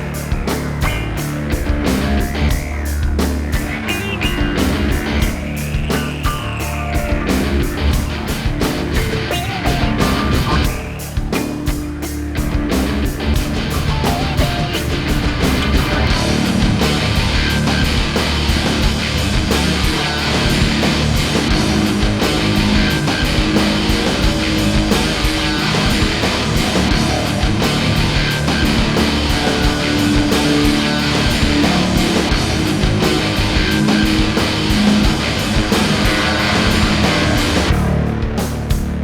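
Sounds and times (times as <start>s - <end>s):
heavy metal music: 0.0s - 39.0s.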